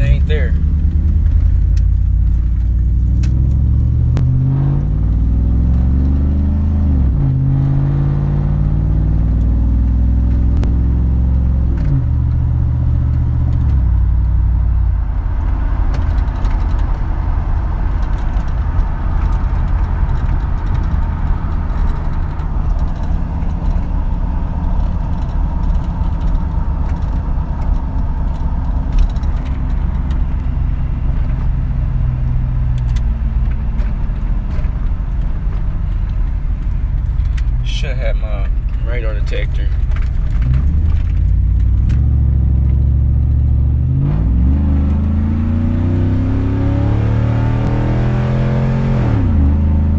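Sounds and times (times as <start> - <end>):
car engine and exhaust accelerating: 0.0 - 49.9.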